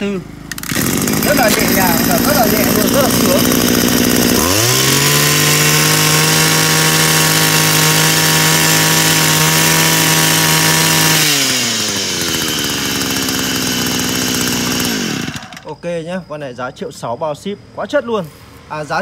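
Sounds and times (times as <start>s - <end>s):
brush cutter engine revving: 0.0s - 15.9s.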